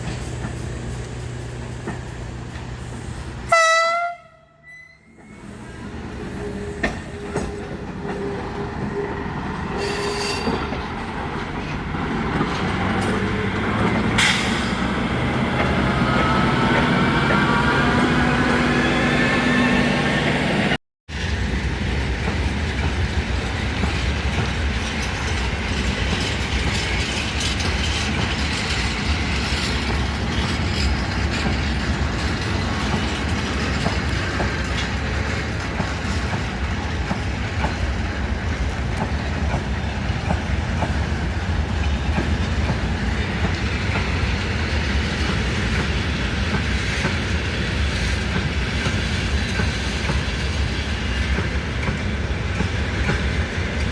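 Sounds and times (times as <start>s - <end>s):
train wagons rumbling past: 0.0s - 53.9s.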